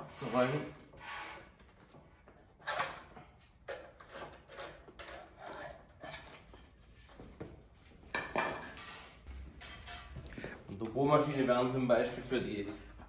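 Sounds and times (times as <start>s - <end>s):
knocks clunks and scrapes of tooling: 0.0s - 10.8s.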